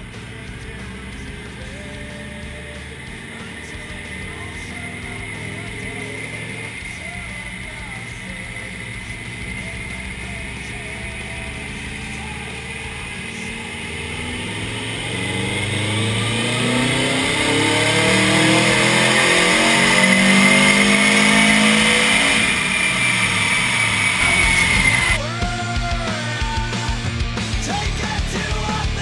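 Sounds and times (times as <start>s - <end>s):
car engine revving: 0.0s - 25.3s
high turbo whine: 0.0s - 29.0s.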